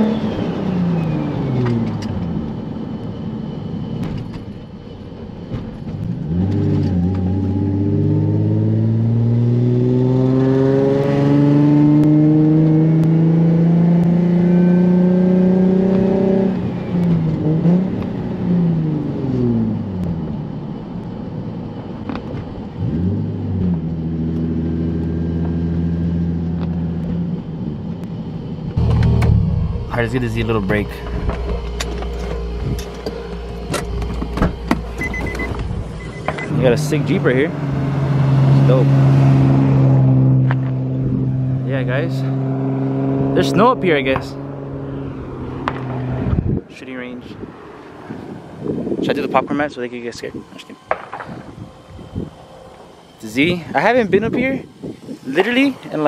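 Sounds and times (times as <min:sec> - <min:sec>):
car engine from inside cabin: 0:00.0 - 0:46.5.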